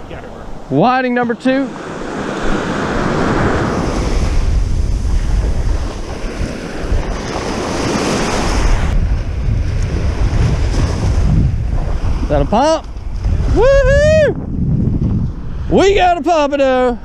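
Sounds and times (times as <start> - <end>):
surf breaking and washing in: 0.0 - 17.0
wind buffeting microphone: 0.0 - 17.0.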